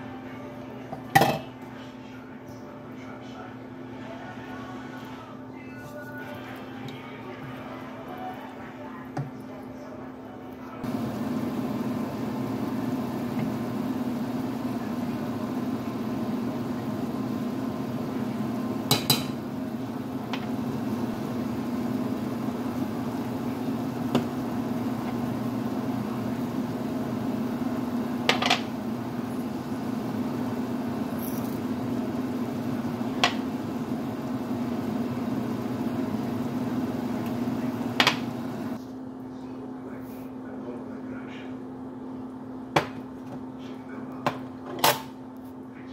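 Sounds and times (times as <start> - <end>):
steady hum and hiss: 0.0 - 45.9.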